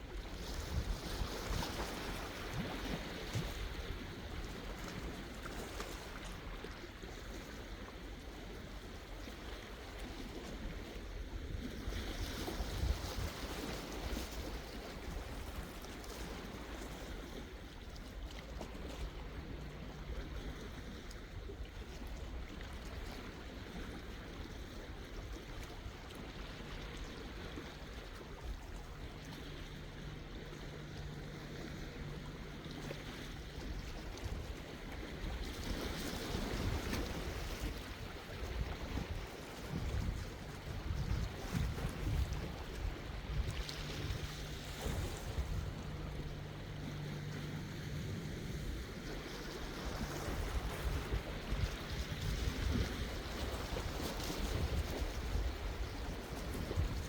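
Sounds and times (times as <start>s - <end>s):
sea waves washing in: 0.0s - 57.0s
wind: 0.0s - 57.0s.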